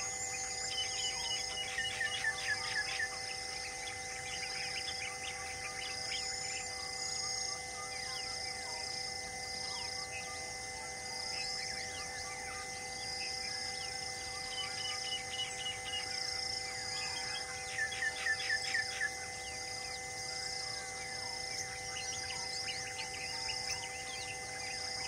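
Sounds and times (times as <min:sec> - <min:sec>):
birds calling: 0:00.0 - 0:08.3, 0:11.5 - 0:24.8
insect drone: 0:00.0 - 0:25.0.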